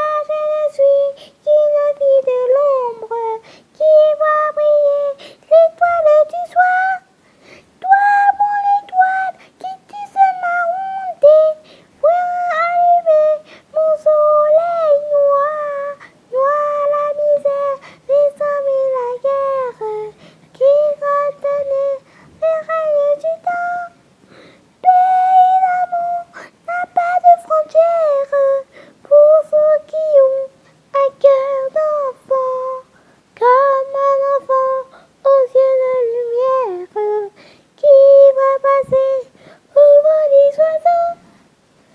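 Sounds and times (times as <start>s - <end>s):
high voice singing slowly: 0.0s - 7.2s, 7.8s - 24.0s, 24.8s - 41.3s.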